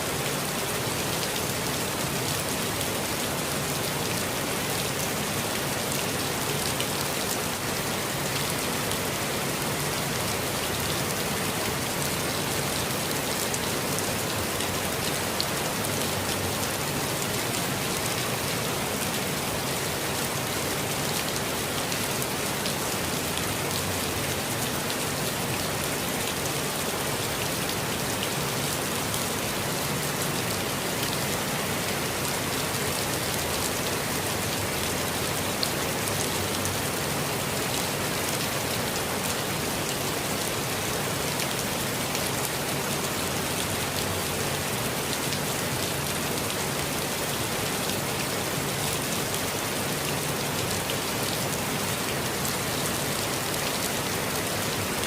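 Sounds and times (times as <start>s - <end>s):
steady rain on foliage: 0.0s - 55.0s.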